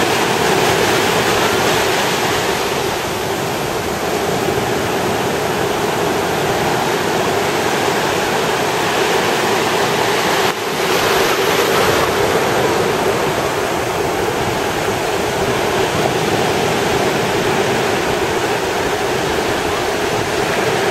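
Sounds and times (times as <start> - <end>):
waves breaking on beach: 0.0 - 20.9.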